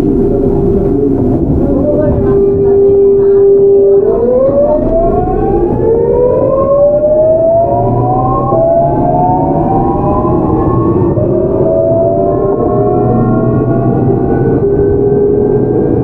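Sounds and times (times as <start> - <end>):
train running rumble: 0.0 - 16.0
train traction inverter whining: 0.0 - 16.0.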